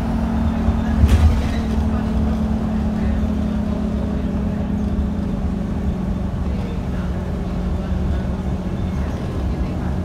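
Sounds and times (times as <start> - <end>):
bus engine and road drone: 0.0 - 10.0.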